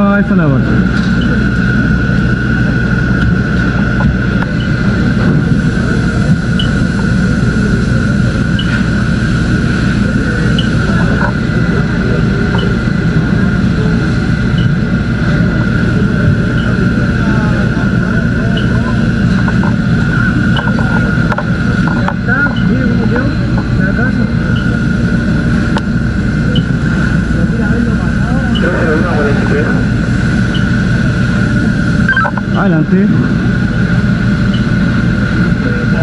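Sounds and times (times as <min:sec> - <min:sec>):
high whine: 0:00.0 - 0:36.0
large engine running: 0:00.0 - 0:36.0.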